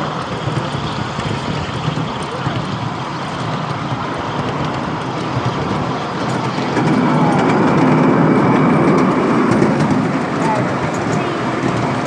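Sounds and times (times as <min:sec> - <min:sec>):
miniature train wheels rumbling: 0:00.0 - 0:12.0.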